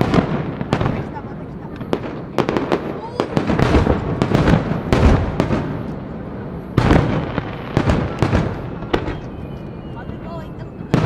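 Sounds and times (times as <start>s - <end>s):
sharp bangs and crackling pops: 0.0s - 11.0s.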